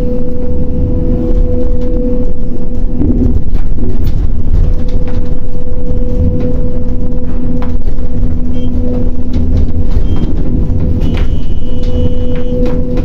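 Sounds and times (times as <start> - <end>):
crane engine rumbling: 0.0 - 13.0
hydraulic power unit hum: 0.0 - 13.0.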